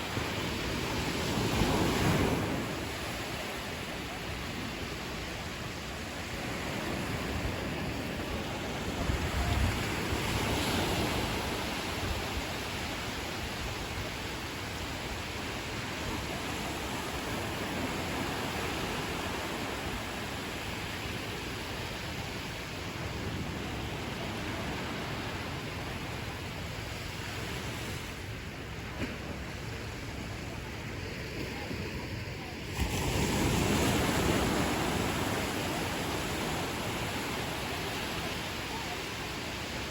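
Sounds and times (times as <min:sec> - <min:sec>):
ocean waves washing on beach: 0:00.0 - 0:39.9
wind on microphone: 0:00.0 - 0:39.9.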